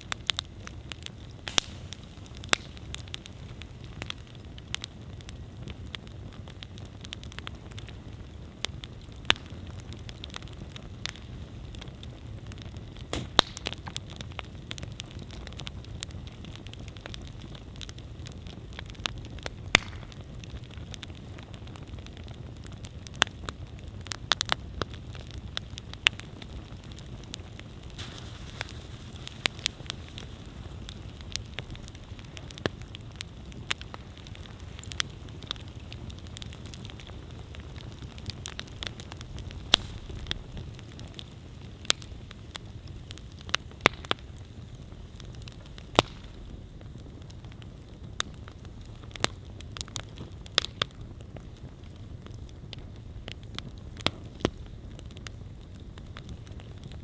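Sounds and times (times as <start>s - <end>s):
campfire rumble: 0.0s - 57.0s
fire crackling and popping: 0.0s - 57.0s.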